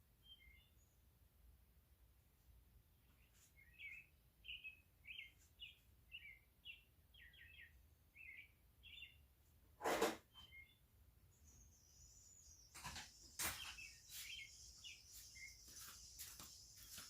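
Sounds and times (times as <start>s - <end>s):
faint bird chirping: 0.0s - 9.6s, 10.2s - 17.0s.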